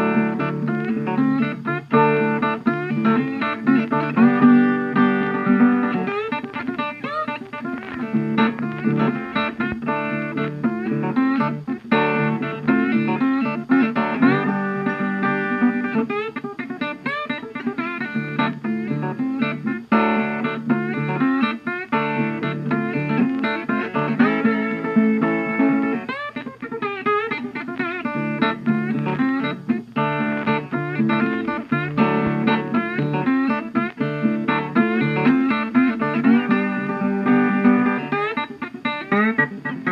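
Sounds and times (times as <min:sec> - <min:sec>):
plucked acoustic guitar: 0:00.0 - 0:39.9.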